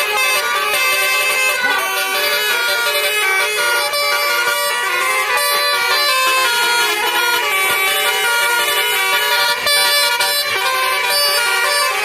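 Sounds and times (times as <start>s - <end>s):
musical air horn playing tune: 0.0s - 12.0s.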